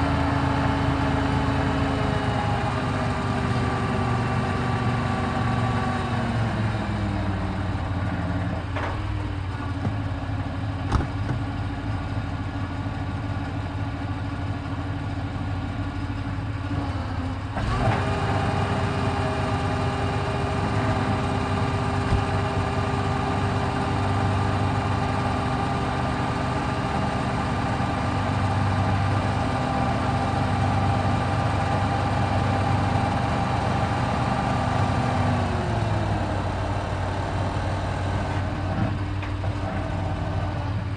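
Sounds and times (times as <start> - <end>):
heavy vehicle engine idling: 0.0 - 40.9.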